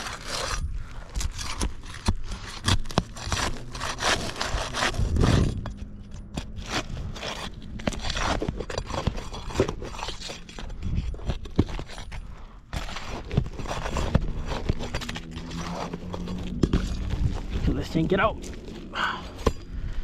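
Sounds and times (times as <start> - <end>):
roof shingles scraping and crunching: 0.0 - 5.7, 6.4 - 19.5.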